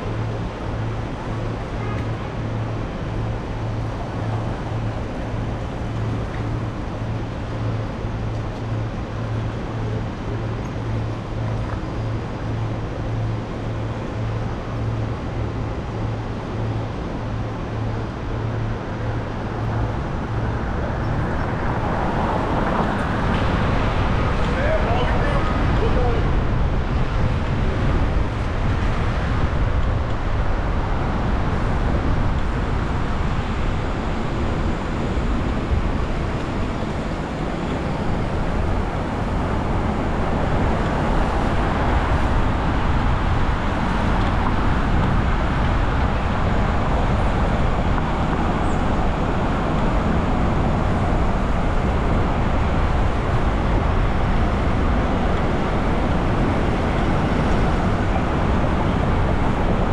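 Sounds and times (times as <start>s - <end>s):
car road noise: 0.0s - 59.9s.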